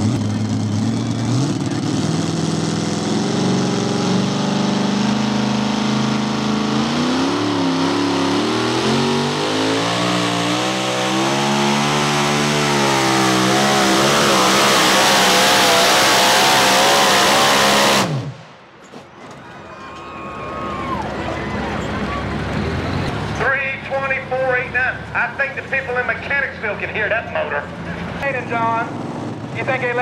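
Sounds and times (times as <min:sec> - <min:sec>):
pulling truck engine at full throttle: 0:00.0 - 0:30.0.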